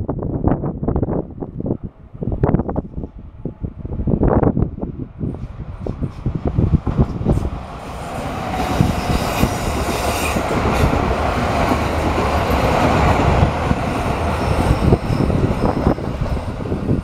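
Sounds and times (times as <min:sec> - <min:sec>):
train wheels rumbling on rails: 0:00.6 - 0:17.0.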